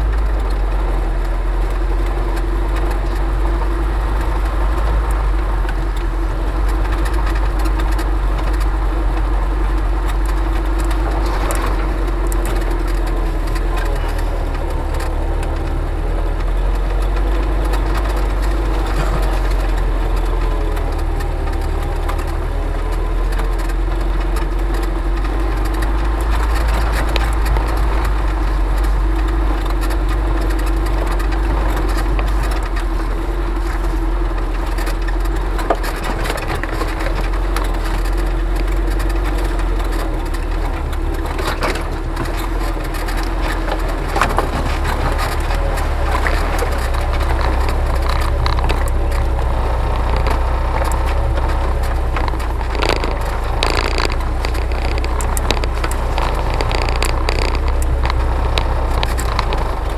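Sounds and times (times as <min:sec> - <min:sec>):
branches scraping along vehicle: 0:00.0 - 0:59.9
twigs crackling and snapping: 0:00.0 - 0:59.9
vehicle engine running: 0:00.0 - 0:59.9.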